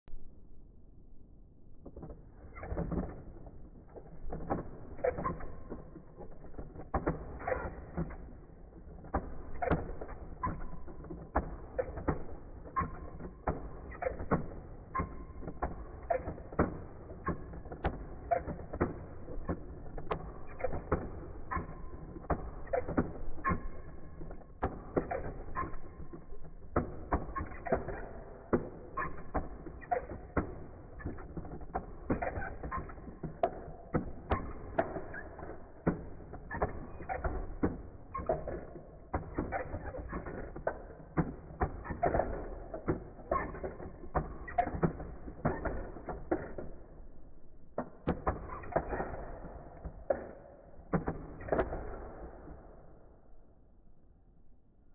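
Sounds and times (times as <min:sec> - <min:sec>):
sharp plastic snaps: 0:01.8 - 0:47.1
plastic toy clicks and clacks: 0:01.9 - 0:51.8
short squeaky ring: 0:04.3 - 0:47.0, 0:48.2 - 0:52.0.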